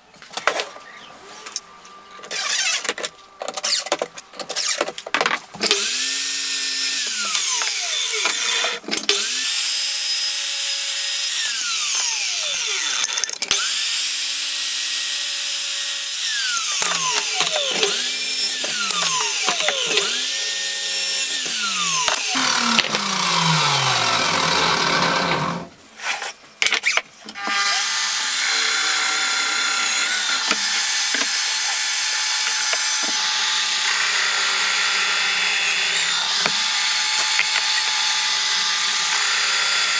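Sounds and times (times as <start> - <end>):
power tool motor running: 5.6 - 25.7, 27.4 - 39.9.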